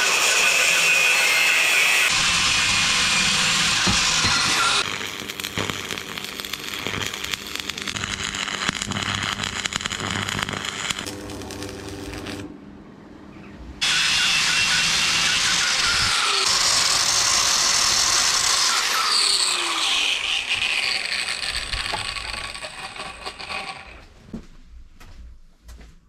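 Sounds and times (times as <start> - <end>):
grinder hissing grind: 0.0 - 12.5, 13.8 - 24.1
power tool rapid crackle: 0.0 - 12.5, 13.8 - 24.0.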